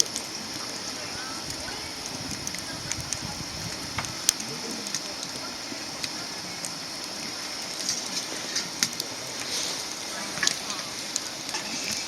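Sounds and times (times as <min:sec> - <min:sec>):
faint distant voices: 0:00.0 - 0:12.0
wood fire crackling and popping: 0:00.0 - 0:12.0.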